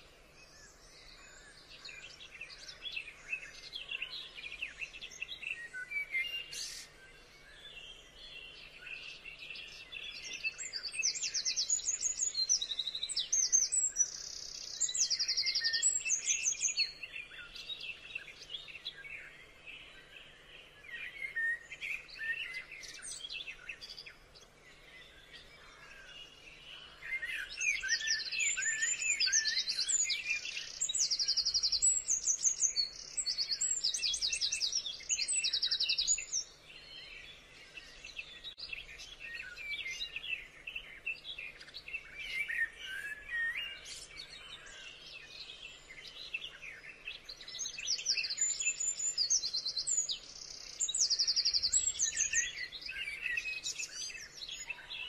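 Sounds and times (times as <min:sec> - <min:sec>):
birds chirping: 0:00.0 - 0:55.0
rapid trilled birdsong: 0:00.0 - 0:55.0.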